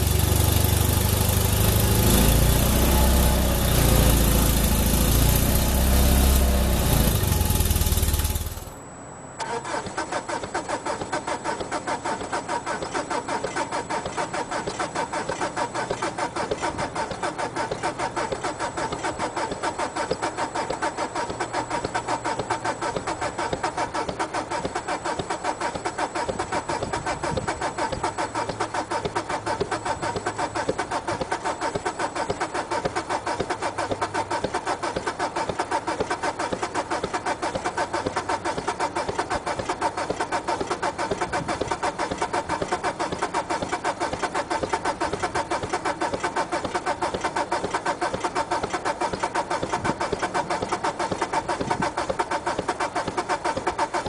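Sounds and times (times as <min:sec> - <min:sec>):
diesel engine idling with clatter: 0:00.0 - 0:54.0.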